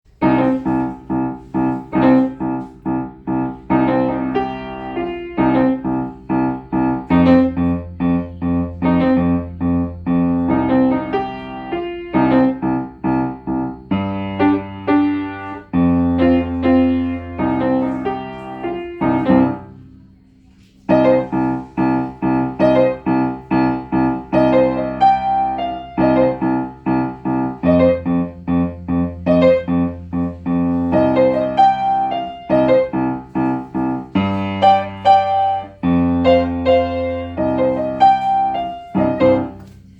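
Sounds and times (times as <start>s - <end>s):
solo piano playing: 0.1s - 39.9s.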